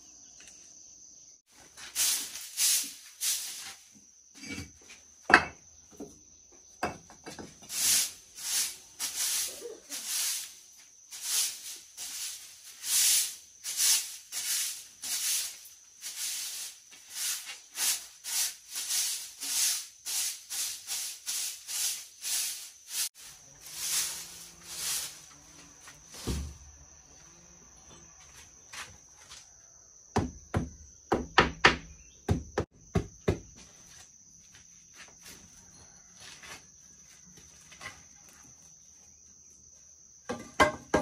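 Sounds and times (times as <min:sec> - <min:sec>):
high insect trill: 0:00.0 - 0:41.0.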